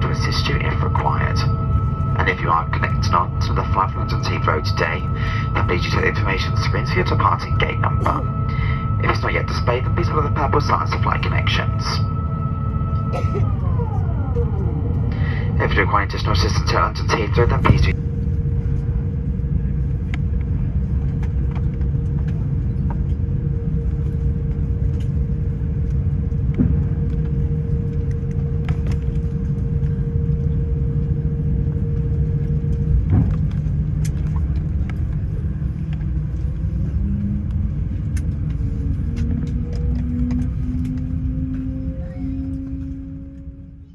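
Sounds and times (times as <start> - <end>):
constant hum: 0.0 - 43.9
low cabin rumble: 0.0 - 43.9.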